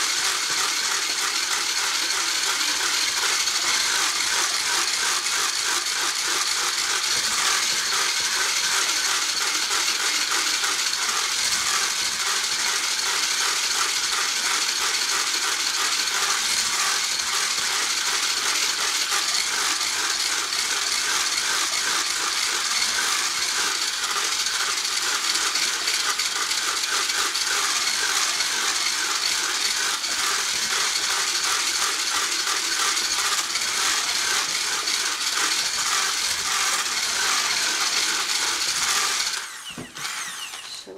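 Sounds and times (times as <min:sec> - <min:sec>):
electric mixer running: 0:00.0 - 0:40.9
beater rattling against saucepan: 0:00.1 - 0:40.9.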